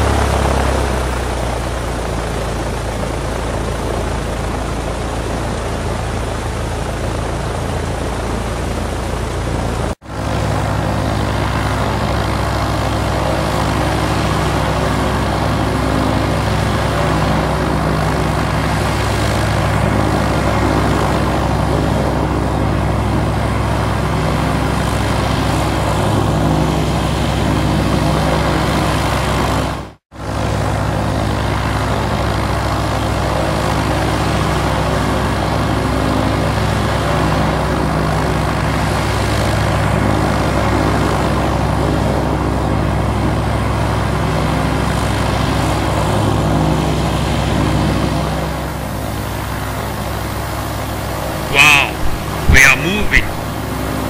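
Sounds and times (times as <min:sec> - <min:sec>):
airplane engine and propeller: 0:00.0 - 0:54.0.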